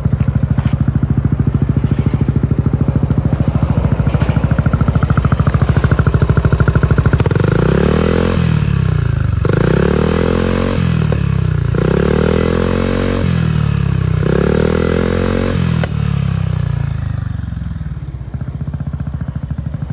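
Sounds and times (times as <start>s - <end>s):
scooter engine idling and revving: 0.0s - 19.9s.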